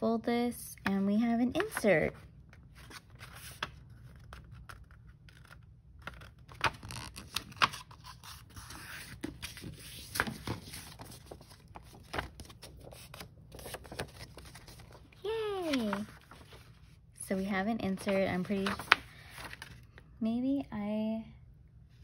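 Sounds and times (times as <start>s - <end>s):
paper folding and crinkling: 1.5s - 20.0s.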